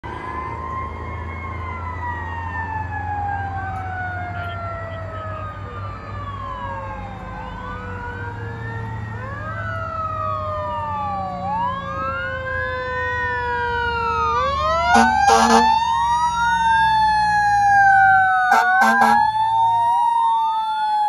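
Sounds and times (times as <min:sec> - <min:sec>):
fire truck sirens wailing: 0:00.0 - 0:21.0
low rumble of engines and traffic: 0:00.0 - 0:21.0.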